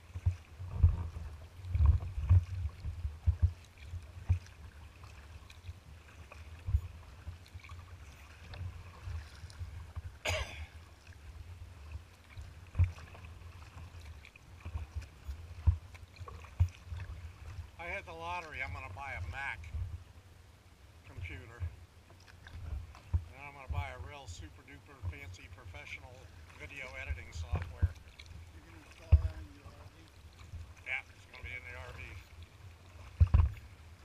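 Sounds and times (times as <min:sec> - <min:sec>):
water lapping against kayak hull: 0:00.0 - 0:34.0.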